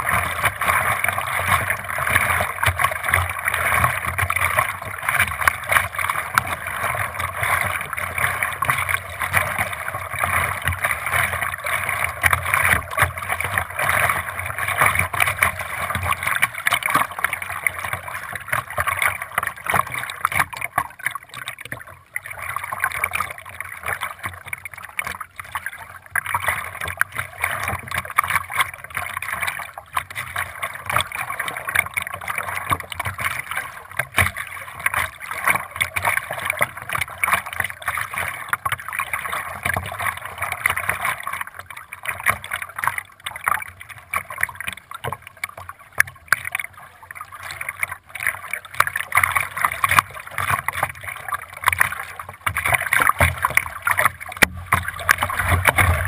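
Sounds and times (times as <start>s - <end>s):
water splashing and gurgling: 0.0s - 56.0s.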